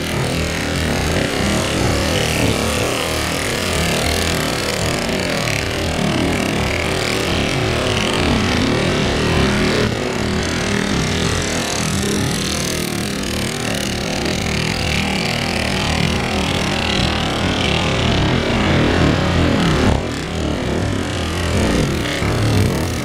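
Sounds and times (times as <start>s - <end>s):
go-kart engines racing: 0.0s - 23.0s.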